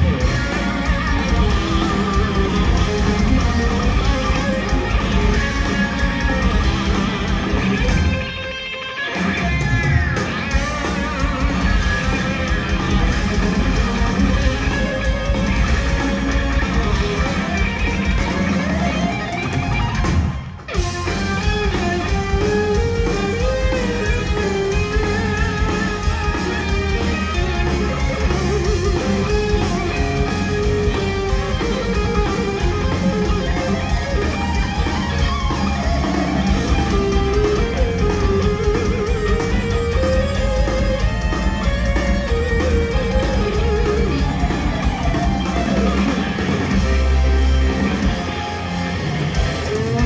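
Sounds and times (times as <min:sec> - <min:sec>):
electric guitar melody with vibrato: 0:00.0 - 0:50.0
heavy metal band playing: 0:00.0 - 0:50.0.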